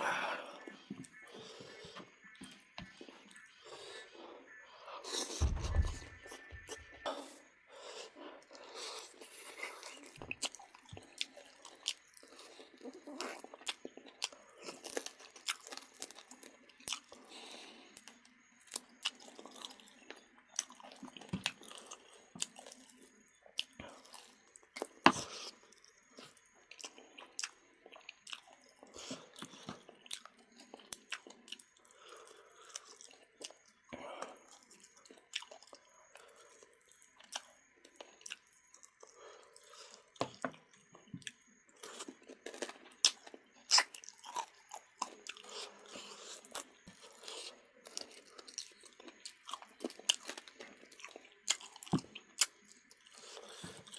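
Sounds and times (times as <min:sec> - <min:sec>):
person chewing and crunching: 0:00.0 - 0:53.9.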